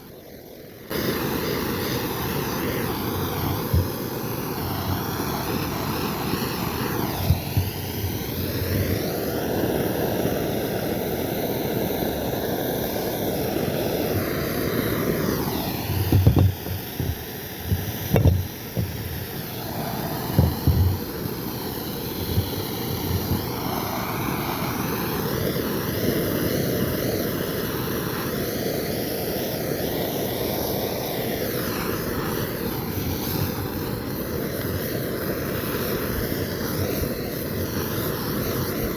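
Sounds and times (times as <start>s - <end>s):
blowtorch flame hissing: 0.0s - 38.9s.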